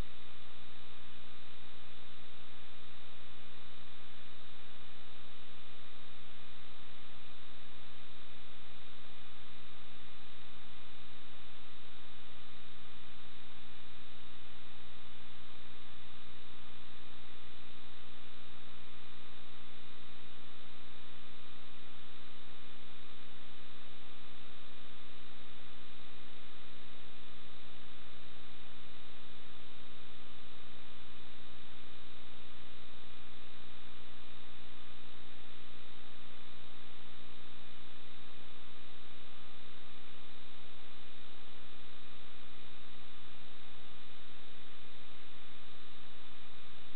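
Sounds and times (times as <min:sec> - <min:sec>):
steady hum and hiss: 0:00.0 - 0:46.9.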